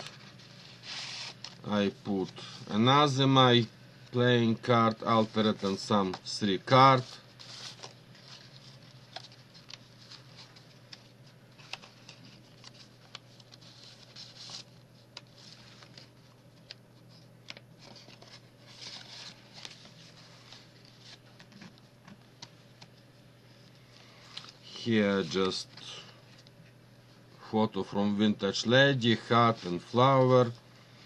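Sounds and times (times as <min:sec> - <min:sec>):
paper cards rustling and sliding: 0:00.0 - 0:23.0, 0:23.8 - 0:26.5, 0:29.0 - 0:31.0
steady low hum: 0:00.0 - 0:31.0.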